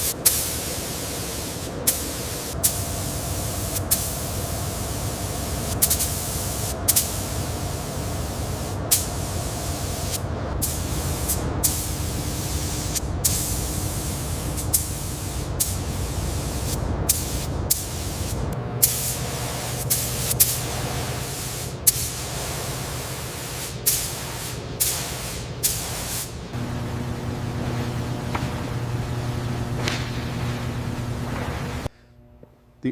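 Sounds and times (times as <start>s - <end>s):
low machine hum: 0.0s - 25.6s, 26.3s - 32.9s
compressed air bursts: 0.0s - 31.9s.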